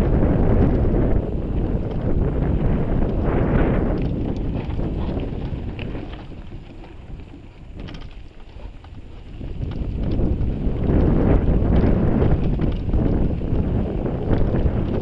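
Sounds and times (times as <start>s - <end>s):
bike clicks: 0.0s - 15.0s
bike tyre noise on dirt: 0.0s - 15.0s
wind on microphone: 0.0s - 15.0s.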